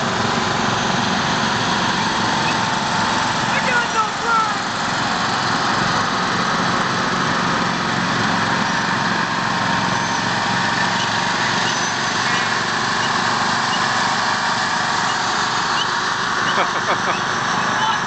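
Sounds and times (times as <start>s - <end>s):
lawn mower engines running: 0.0s - 18.0s.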